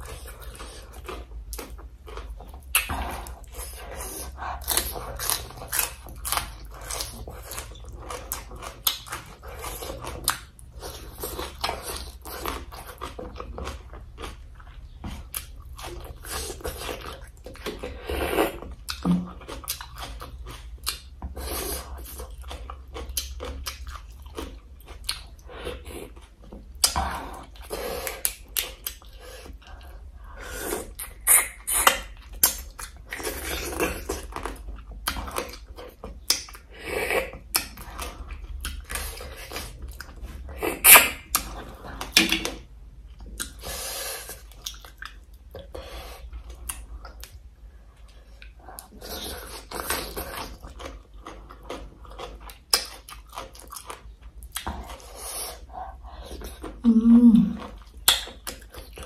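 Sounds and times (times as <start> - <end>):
close chewing and crunching: 0.0 - 59.0.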